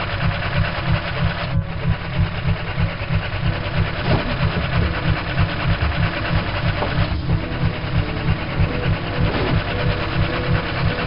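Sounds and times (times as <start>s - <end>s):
mechanical clatter: 0.0s - 11.0s.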